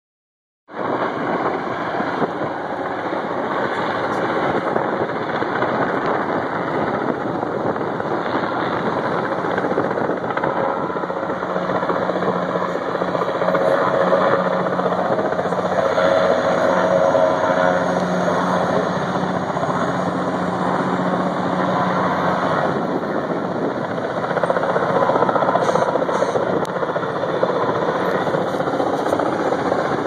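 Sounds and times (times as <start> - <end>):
helicopter rotor beat: 0.7 - 30.0.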